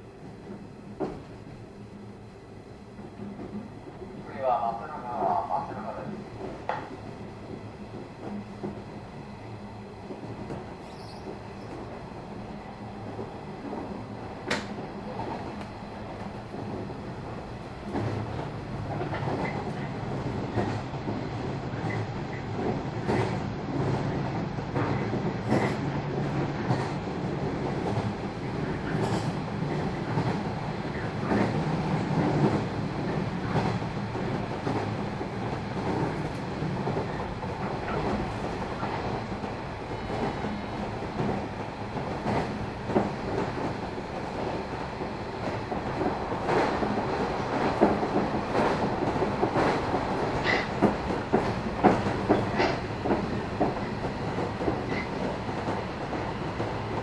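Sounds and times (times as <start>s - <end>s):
train wheels rumbling on rail: 0.0s - 57.0s
rail-joint clacks: 0.4s - 1.3s, 4.7s - 8.9s, 13.0s - 57.0s.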